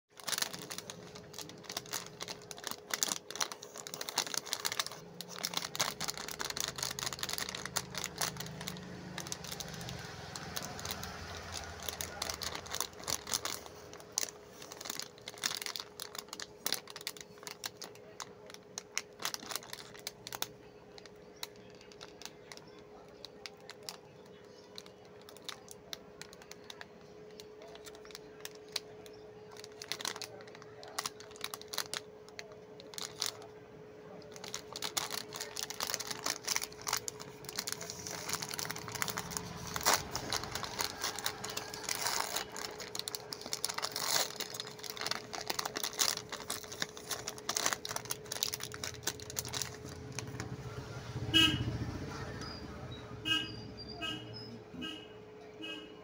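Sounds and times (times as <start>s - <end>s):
plastic wrappers crinkling: 0.1s - 50.8s.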